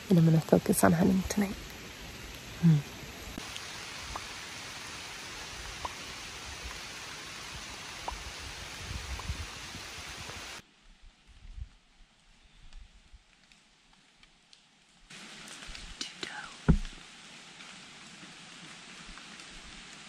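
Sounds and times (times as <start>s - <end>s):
raindrop ticks: 0.0s - 9.8s, 12.1s - 20.0s
rain hissing through woods: 0.0s - 20.0s.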